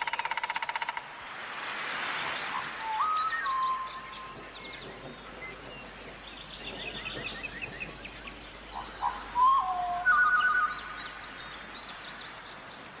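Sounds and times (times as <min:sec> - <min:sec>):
birds singing: 0:02.2 - 0:13.0.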